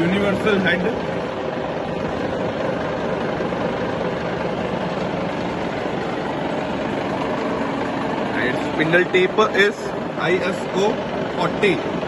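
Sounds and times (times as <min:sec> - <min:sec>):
milling machine humming: 0:00.0 - 0:12.0.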